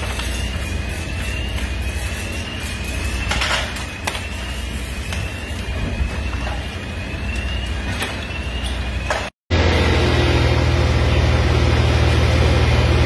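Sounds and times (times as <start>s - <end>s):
fire engine rumble: 0.0s - 13.0s.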